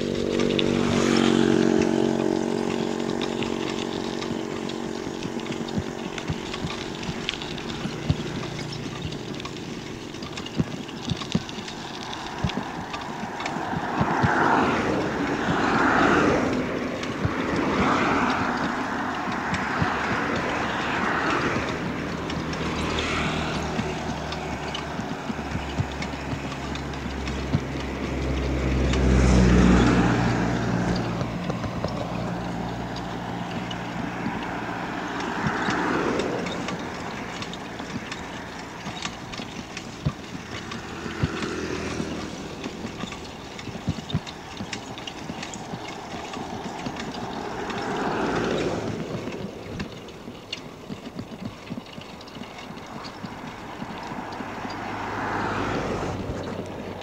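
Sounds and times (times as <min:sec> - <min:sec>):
light clicks and rattles: 0:00.0 - 0:57.0
traffic whooshing past: 0:00.0 - 0:57.0
vehicle engine hum passing: 0:00.0 - 0:57.0.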